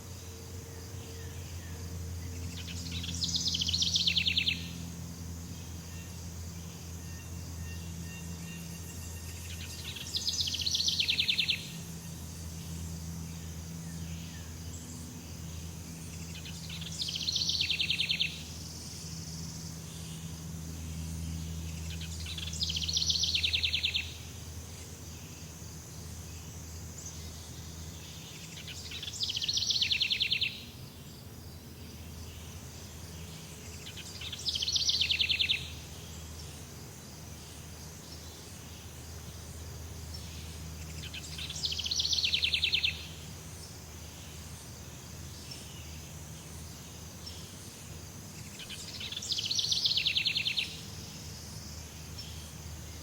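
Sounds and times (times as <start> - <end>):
steady high hiss: 0.0 - 53.0.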